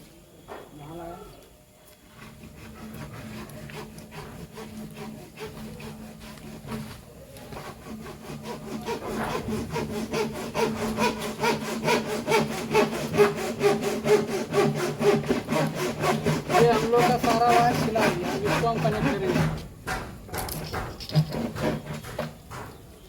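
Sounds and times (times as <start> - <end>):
blade scraping wire insulation: 2.0 - 19.7, 20.3 - 22.8.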